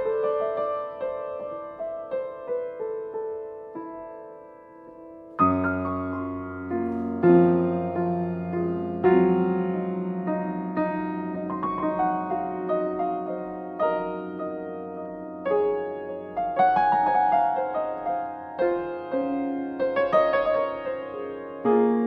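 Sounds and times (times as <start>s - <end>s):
soft piano music: 0.0s - 22.0s.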